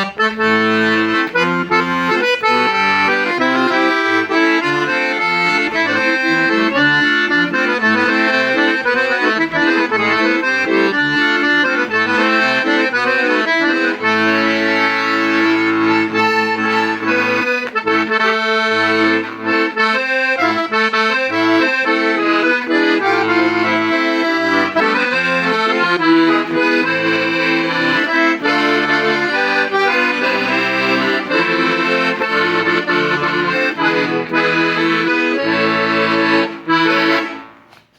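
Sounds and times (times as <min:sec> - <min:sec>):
piano accordion playing: 0:00.0 - 0:37.9.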